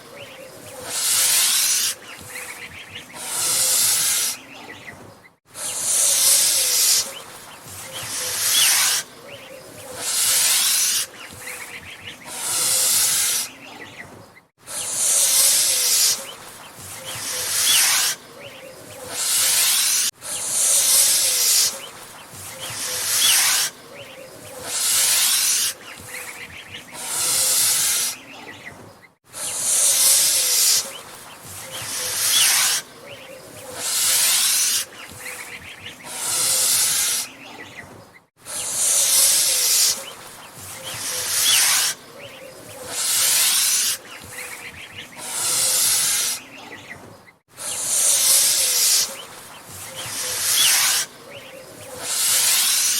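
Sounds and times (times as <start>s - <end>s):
goose hissing: 0.0s - 4.8s, 5.5s - 9.1s, 9.7s - 13.8s, 14.6s - 18.2s, 18.9s - 28.4s, 29.3s - 37.6s, 38.4s - 42.0s, 42.7s - 46.7s, 47.5s - 52.9s.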